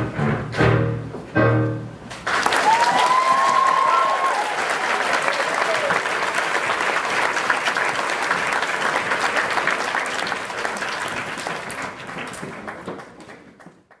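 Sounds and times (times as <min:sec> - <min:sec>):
audience applause: 0:02.2 - 0:14.0.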